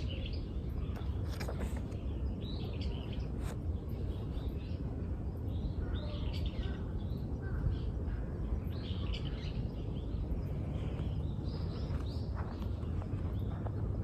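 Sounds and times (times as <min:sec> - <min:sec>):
low outdoor rumble: 0:00.0 - 0:14.0
small birds chirping: 0:00.0 - 0:14.0.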